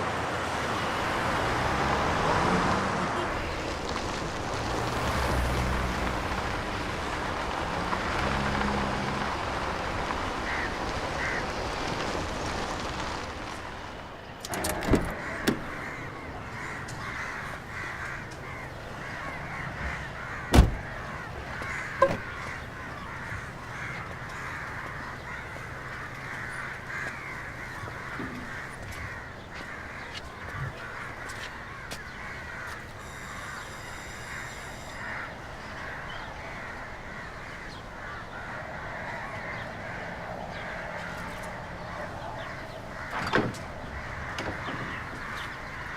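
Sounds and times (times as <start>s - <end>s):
steady outdoor background: 0.0s - 45.9s
crows cawing: 5.0s - 12.2s, 14.5s - 45.9s.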